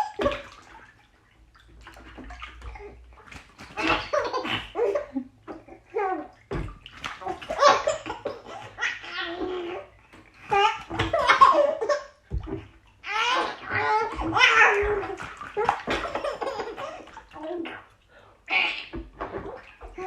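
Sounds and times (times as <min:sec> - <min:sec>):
bath water splashing: 0:00.0 - 0:20.0.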